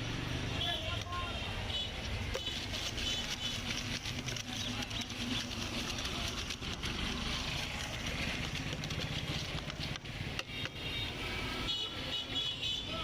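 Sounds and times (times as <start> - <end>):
vehicle engines running: 0.0 - 10.8.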